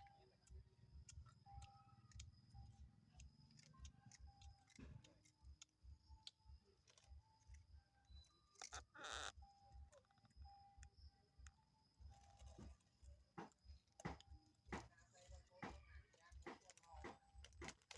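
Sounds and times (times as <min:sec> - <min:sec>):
faint background music: 0:00.0 - 0:17.9
small clicks: 0:00.0 - 0:17.9.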